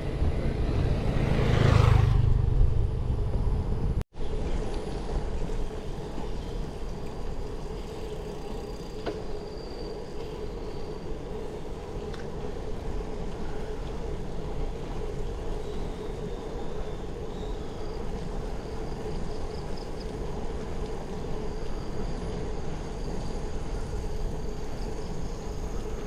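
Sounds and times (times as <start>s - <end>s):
bicycle ride rumble: 0.0s - 26.0s.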